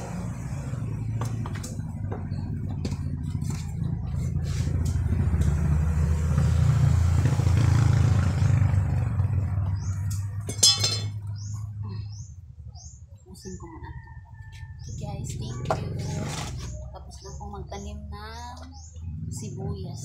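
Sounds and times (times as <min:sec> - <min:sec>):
vehicle engine passing: 0:00.0 - 0:13.5, 0:15.0 - 0:20.0.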